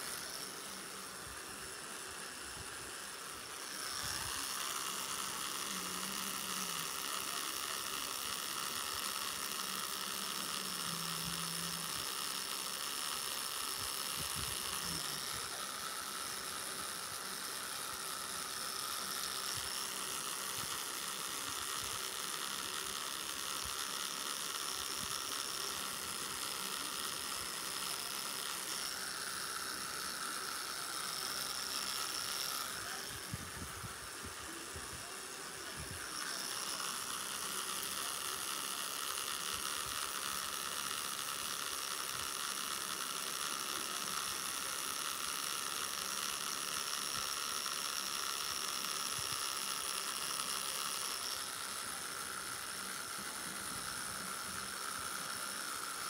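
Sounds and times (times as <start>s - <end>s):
tattoo machine buzzing: 0.0s - 56.0s.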